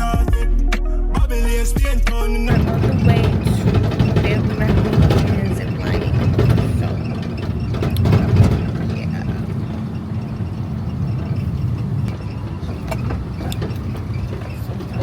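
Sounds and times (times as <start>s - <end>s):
car engine and road noise: 2.5s - 15.0s.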